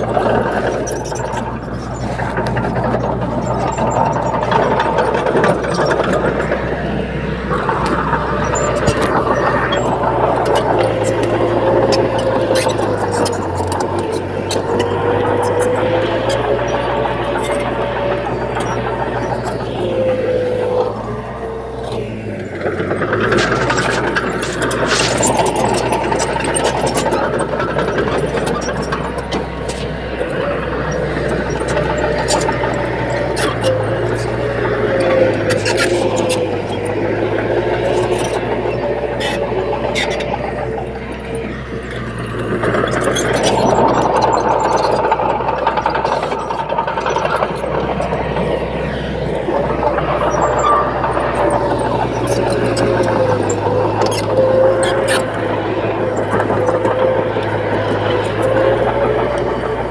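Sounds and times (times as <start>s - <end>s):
dense rattle and clicks: 0.0s - 59.9s
diesel earthmover engine running: 0.0s - 59.9s.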